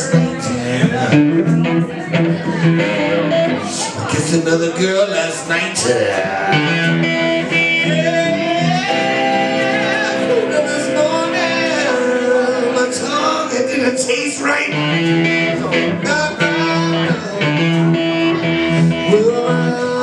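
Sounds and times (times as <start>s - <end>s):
acoustic and electric guitars: 0.0s - 20.0s
man singing long notes: 3.6s - 20.0s.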